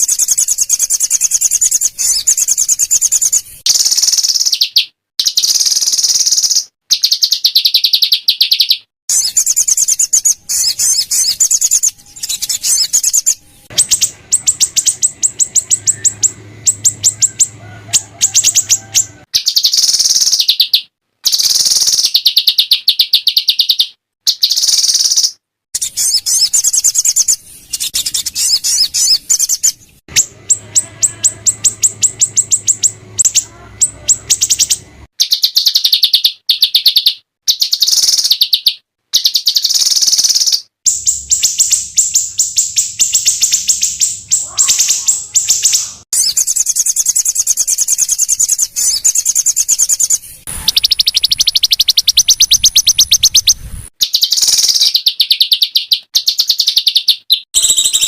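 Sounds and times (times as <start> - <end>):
songbirds giving harsh high notes: 0.0 - 58.0.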